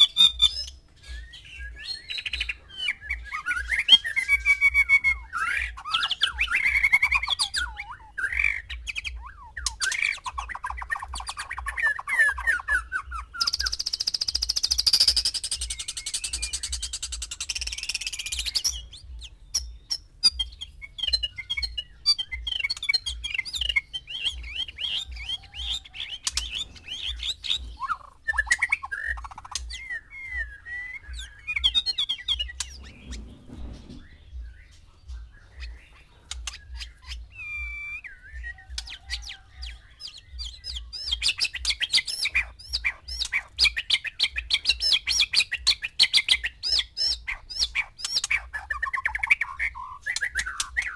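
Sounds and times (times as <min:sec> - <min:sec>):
birds chirping and singing: 0:00.0 - 0:50.9.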